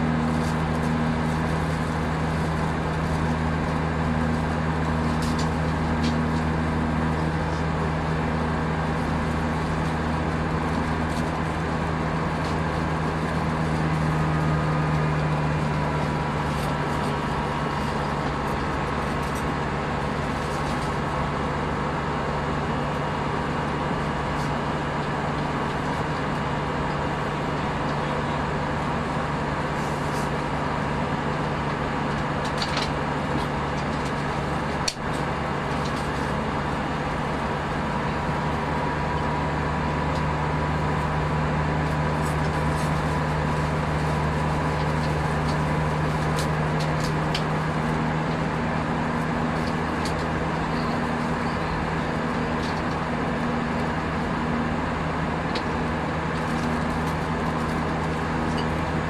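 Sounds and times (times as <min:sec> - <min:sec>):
airplane cabin airflow and engine drone: 0:00.0 - 0:59.0.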